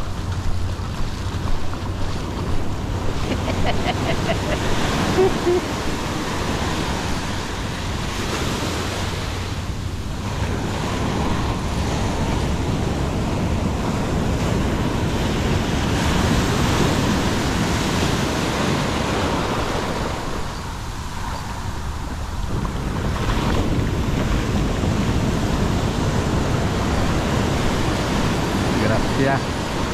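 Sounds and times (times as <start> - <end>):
ocean surf breaking: 0.0 - 29.9.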